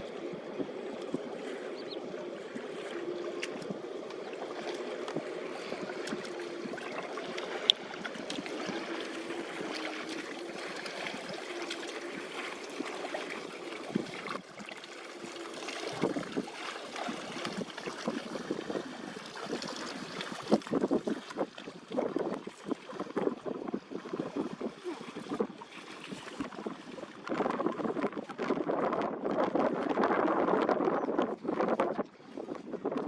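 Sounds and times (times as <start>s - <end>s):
water sloshing and trickling: 0.0s - 33.0s
water splashing: 0.0s - 33.0s.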